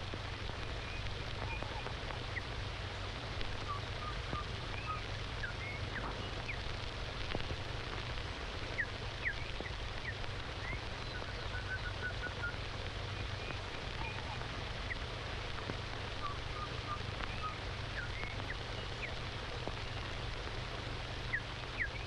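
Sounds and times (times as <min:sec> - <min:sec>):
film soundtrack hiss and hum: 0:00.0 - 0:22.0
birds chirping: 0:00.2 - 0:22.0.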